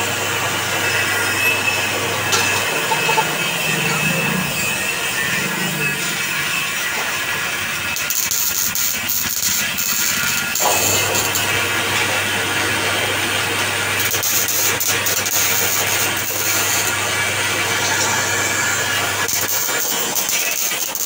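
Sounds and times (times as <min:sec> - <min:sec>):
lathe motor hum: 0:00.0 - 0:20.5
noisy machine sound: 0:00.0 - 0:21.0.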